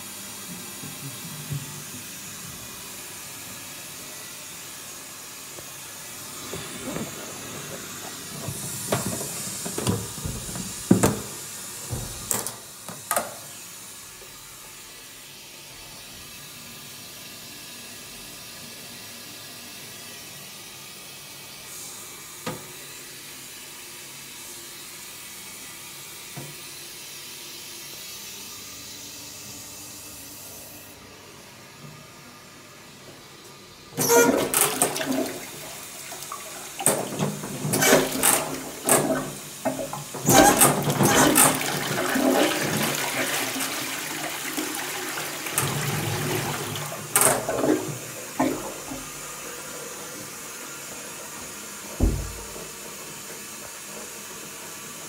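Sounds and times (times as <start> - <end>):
toilet cistern refilling hiss: 0.0 - 31.0, 33.3 - 55.0.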